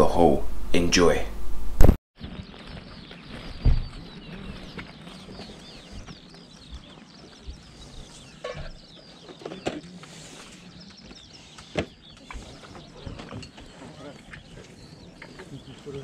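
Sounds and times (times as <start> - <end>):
small birds chirping: 2.2 - 16.0.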